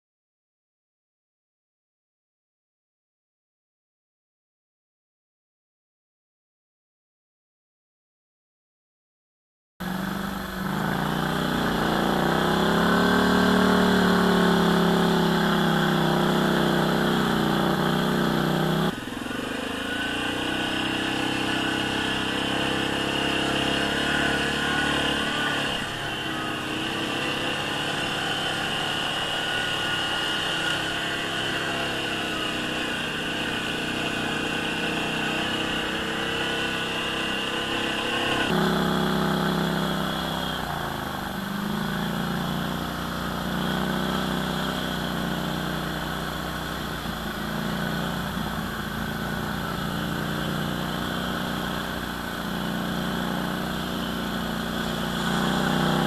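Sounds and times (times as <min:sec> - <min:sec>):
atv engine running: 0:09.8 - 0:56.0.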